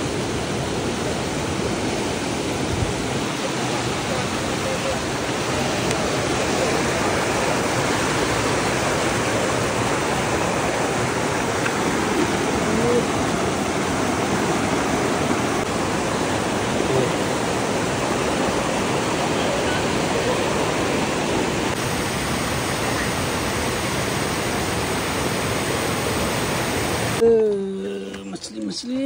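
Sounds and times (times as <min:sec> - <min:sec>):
river rushing over rocks: 0:00.0 - 0:27.2.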